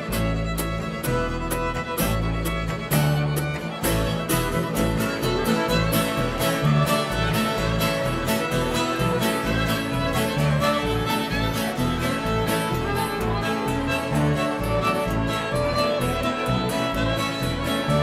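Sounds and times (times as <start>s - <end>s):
fiddle lead: 0.0s - 18.0s
strummed guitar: 0.0s - 18.0s
upright bass: 0.0s - 18.0s.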